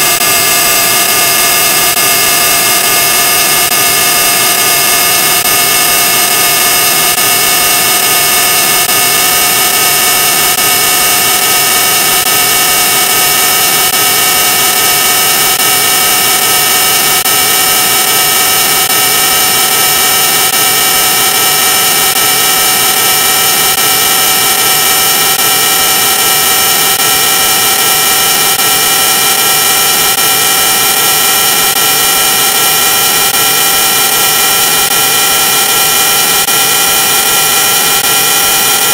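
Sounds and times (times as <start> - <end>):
distorted electronic hiss: 0.0 - 38.9
held electronic tones: 0.0 - 38.9.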